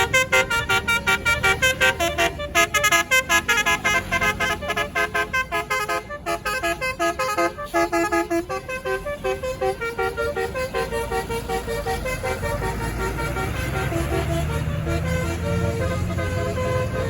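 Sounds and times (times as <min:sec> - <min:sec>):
bus horn playing melody: 0:00.0 - 0:17.0.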